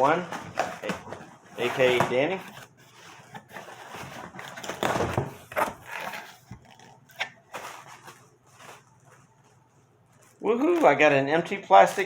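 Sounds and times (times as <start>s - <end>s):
plastic bag rustling: 0.0s - 11.1s.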